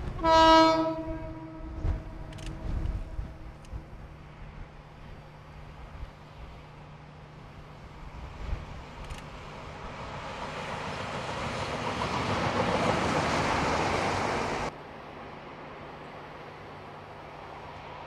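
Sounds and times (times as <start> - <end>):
train wheels on rail: 0.0 - 18.0.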